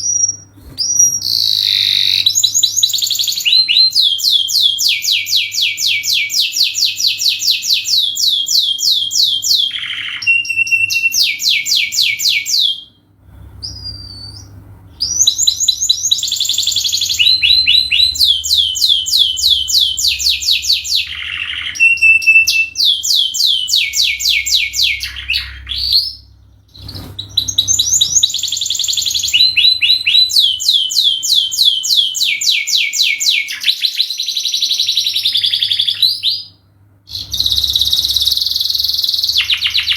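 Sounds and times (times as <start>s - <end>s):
canary singing: 0.0s - 13.0s, 13.6s - 39.9s.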